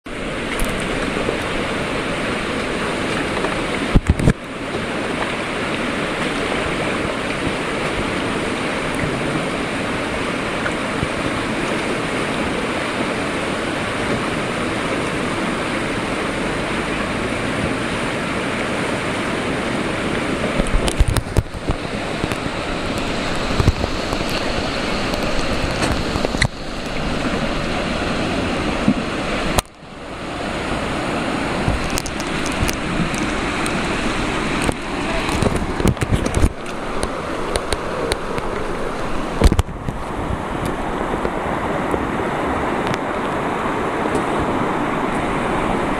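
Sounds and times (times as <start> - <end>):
river rapid rushing: 0.1 - 45.9.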